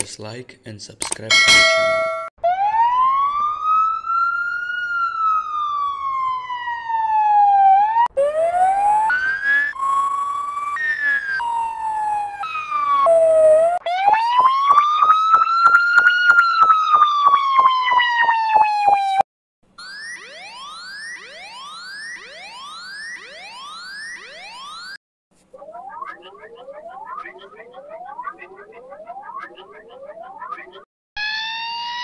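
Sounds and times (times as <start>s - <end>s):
fire truck siren: 2.4s - 19.2s, 19.8s - 25.0s, 25.6s - 32.0s.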